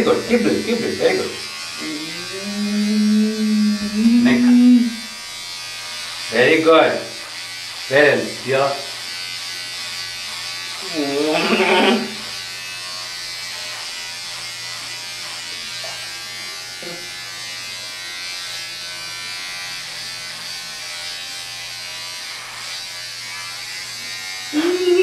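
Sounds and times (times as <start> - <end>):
electric shaver humming: 0.0 - 25.0.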